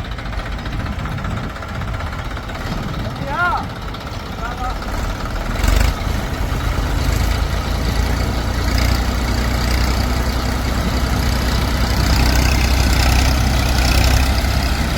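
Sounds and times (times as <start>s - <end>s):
diesel engine rumbling: 0.0s - 14.9s.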